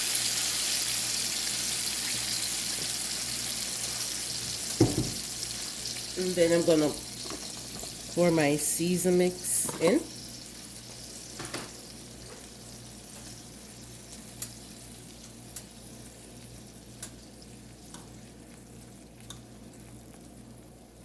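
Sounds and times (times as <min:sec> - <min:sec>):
chicken sizzling in a pot: 0:00.0 - 0:21.0.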